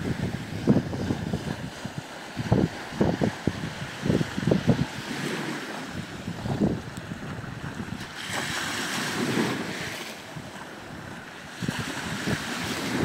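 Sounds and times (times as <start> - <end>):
sea waves washing on shore: 0.0 - 13.0
wind on microphone: 0.0 - 13.0.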